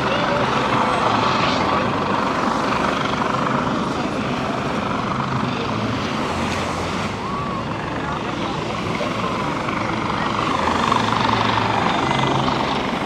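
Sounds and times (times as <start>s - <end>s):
aircraft drone overhead: 0.0s - 13.0s.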